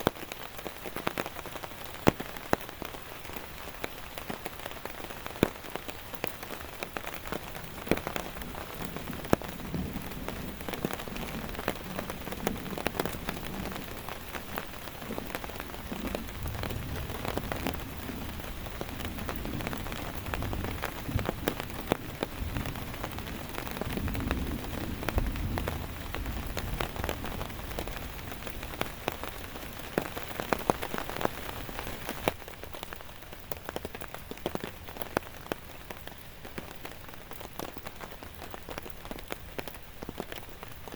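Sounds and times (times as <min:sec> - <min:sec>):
heavy rain falling: 0:00.0 - 0:40.9
raindrops ticking close by: 0:00.0 - 0:40.9.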